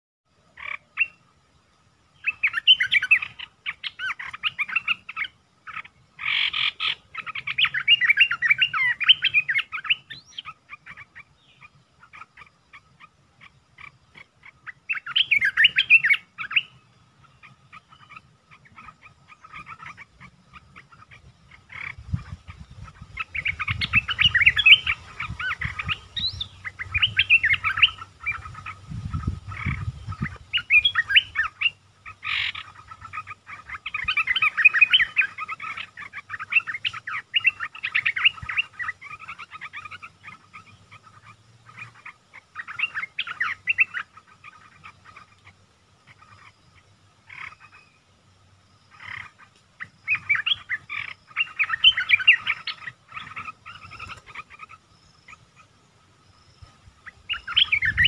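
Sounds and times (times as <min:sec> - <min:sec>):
bird singing bubbly phrases: 0:00.3 - 0:58.0.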